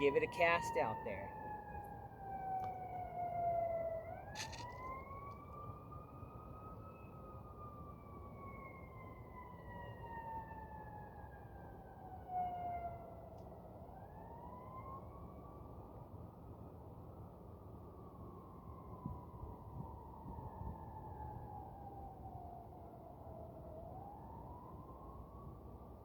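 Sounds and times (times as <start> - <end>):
emergency siren wailing: 0.0 - 26.0.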